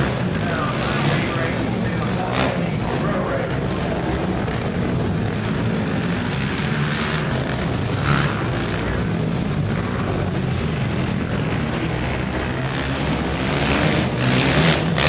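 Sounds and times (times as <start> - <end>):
quad bike engines revving: 0.0 - 15.0.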